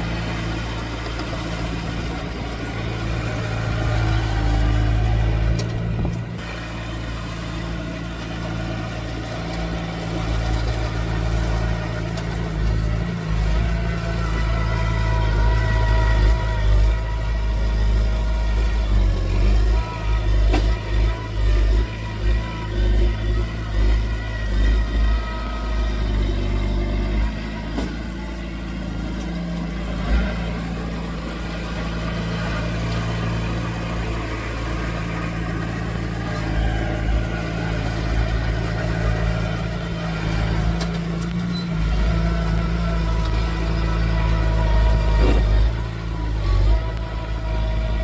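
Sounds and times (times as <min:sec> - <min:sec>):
heavy diesel engine rumbling: 0:00.0 - 0:48.0.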